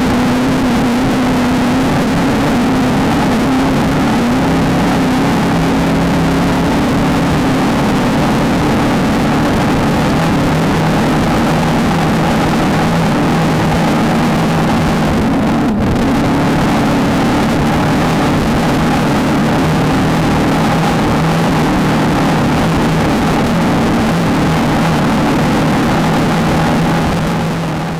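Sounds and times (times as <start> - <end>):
race car engine running hard: 0.0 - 27.9
terrain noise: 0.0 - 27.9
wind rush: 0.0 - 27.9.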